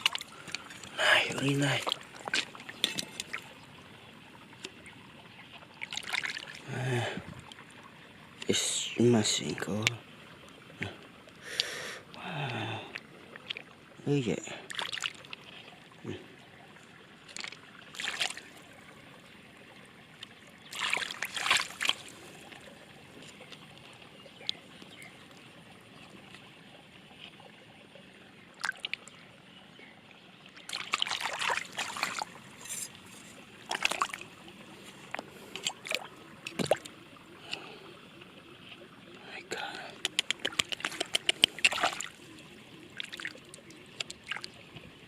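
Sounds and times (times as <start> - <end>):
water sloshing and trickling: 0.0 - 45.0.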